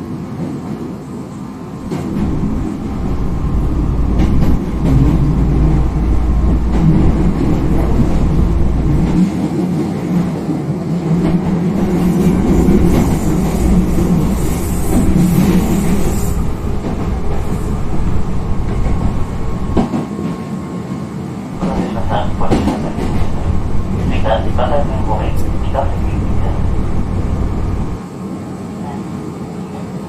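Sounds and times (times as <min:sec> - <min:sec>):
train wheels rumbling on rail: 0:00.0 - 0:28.2.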